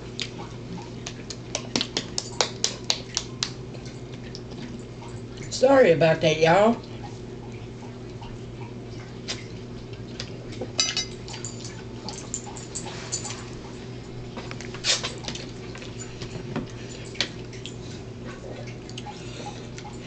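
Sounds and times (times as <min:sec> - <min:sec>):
chewing and lip-smacking: 0:00.0 - 0:05.5, 0:06.8 - 0:20.0
steady low hum: 0:00.0 - 0:20.0.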